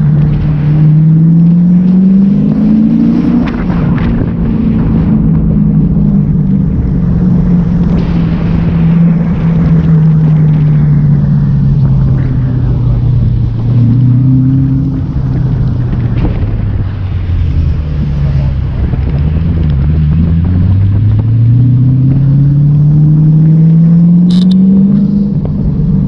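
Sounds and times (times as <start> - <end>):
loud rumbling car exhaust: 0.0 - 26.0.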